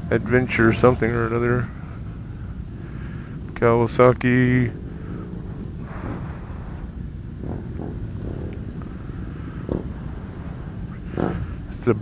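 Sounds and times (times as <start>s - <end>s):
faint distant voices: 0.0s - 12.0s
low outdoor rumble: 0.0s - 12.0s.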